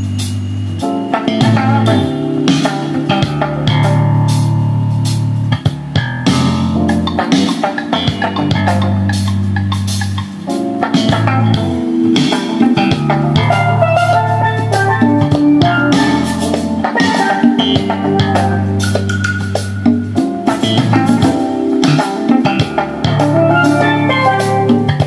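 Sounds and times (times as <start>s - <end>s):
jazz music through speakers: 0.0s - 25.0s.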